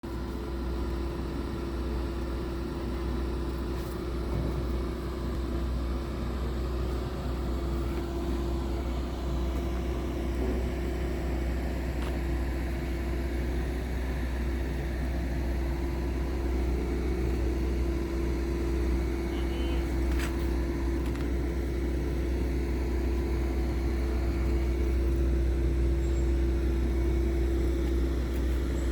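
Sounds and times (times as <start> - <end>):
diesel truck engine idling: 0.0 - 28.9.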